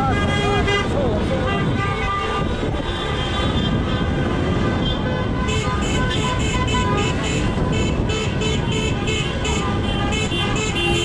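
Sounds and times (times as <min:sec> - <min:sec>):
car horns honking: 0:00.0 - 0:11.0
engine and street noise: 0:00.0 - 0:11.0.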